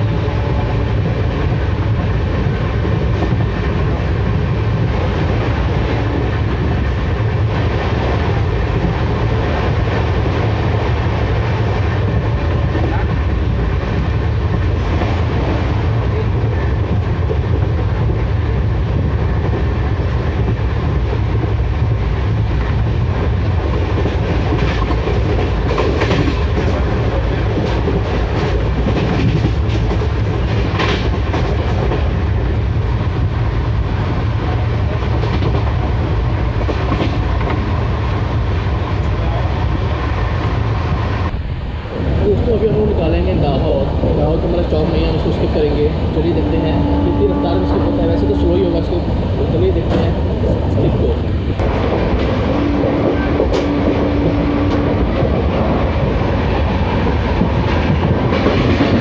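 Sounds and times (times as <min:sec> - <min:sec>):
train coach rumbling: 0:00.0 - 0:59.0.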